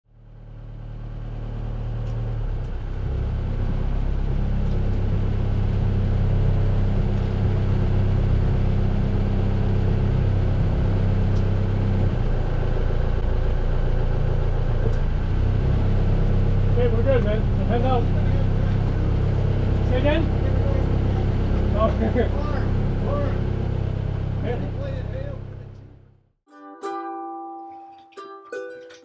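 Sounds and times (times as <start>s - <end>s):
boat engine idling: 0.4s - 26.2s.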